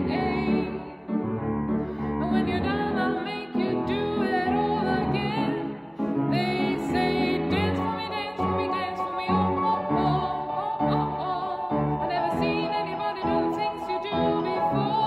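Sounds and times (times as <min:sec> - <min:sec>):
woman singing in echoing hall: 0:00.0 - 0:15.0.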